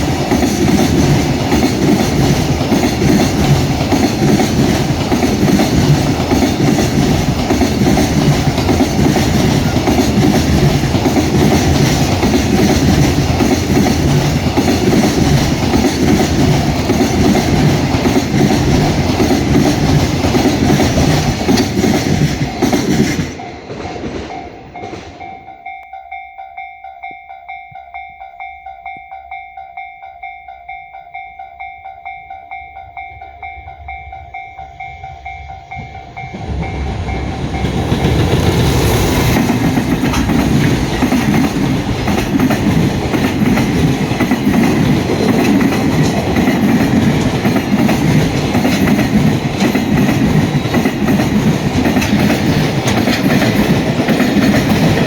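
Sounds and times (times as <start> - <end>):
wheels clickety-clack over rail joints: 0.0 - 25.8, 35.7 - 55.0
freight train passing: 0.0 - 55.0
level-crossing warning bell dings: 0.0 - 55.0.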